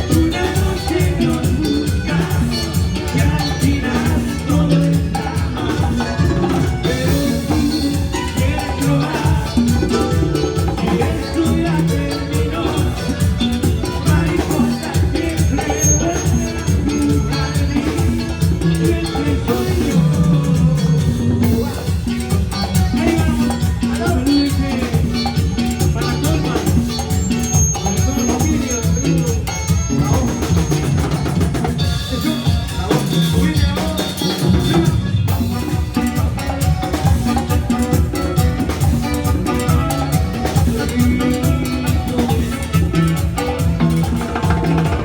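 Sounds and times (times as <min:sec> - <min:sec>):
band playing latin dance music: 0:00.0 - 0:45.0
drums: 0:00.0 - 0:45.0.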